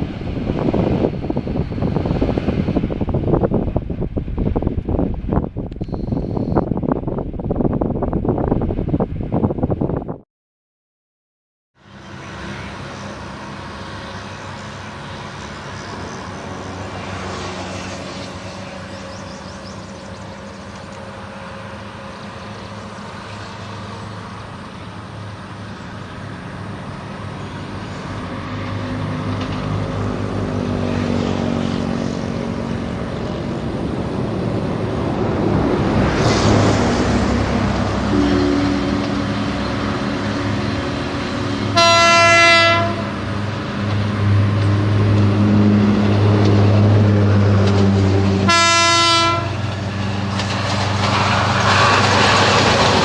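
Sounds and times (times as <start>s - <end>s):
train running: 0.0s - 10.2s, 11.8s - 53.0s.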